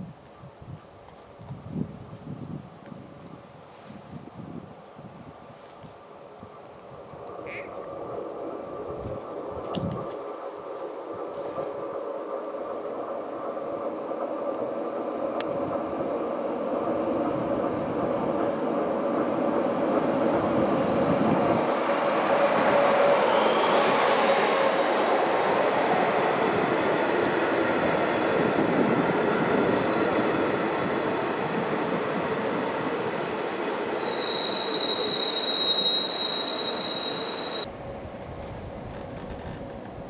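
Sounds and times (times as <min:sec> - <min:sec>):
train wheels rumbling on rails: 0:00.0 - 0:40.0
electric locomotive whine: 0:01.4 - 0:40.0.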